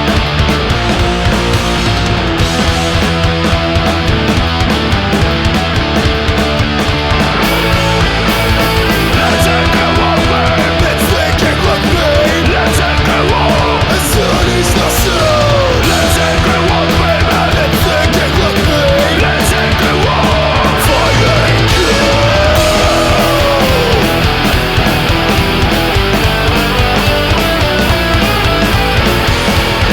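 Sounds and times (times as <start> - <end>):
bass: 0.0 - 29.9
distorted electric guitars: 0.0 - 29.9
drums: 0.0 - 29.9
punk rock song: 0.0 - 29.9.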